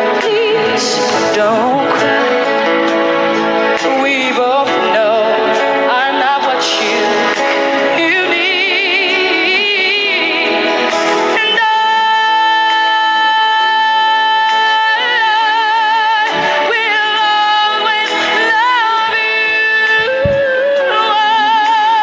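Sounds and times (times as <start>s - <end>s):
pop backing music: 0.0s - 22.0s
woman singing: 0.0s - 22.0s.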